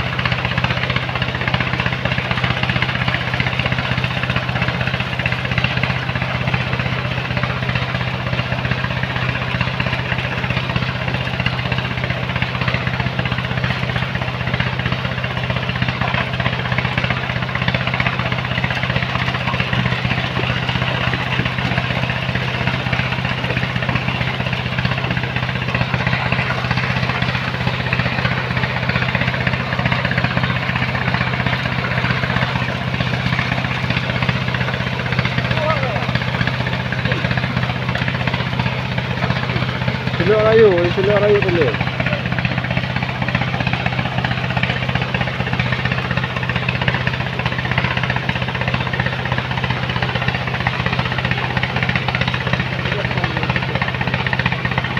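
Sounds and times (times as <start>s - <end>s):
machine engine humming: 0.0s - 54.9s.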